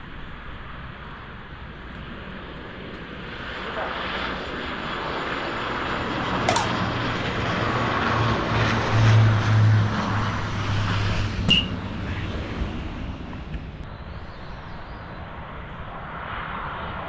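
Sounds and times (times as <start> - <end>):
distant jet airliner roar: 0.0 - 17.0.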